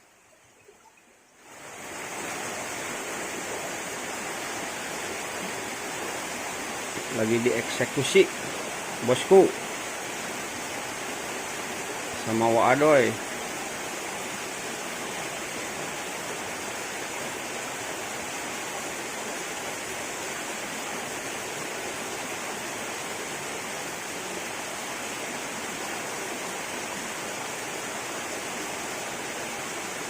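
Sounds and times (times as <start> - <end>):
water rushing: 0.0 - 30.0.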